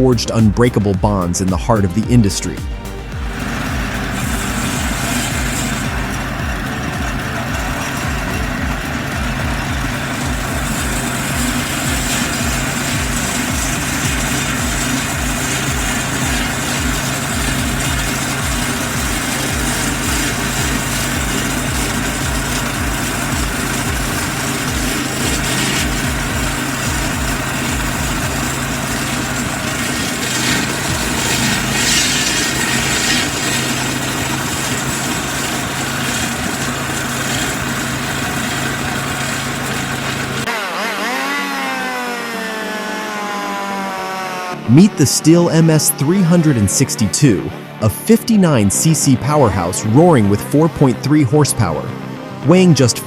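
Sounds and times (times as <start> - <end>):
heavy machine engine chugging: 0.0 - 40.5, 44.6 - 53.0.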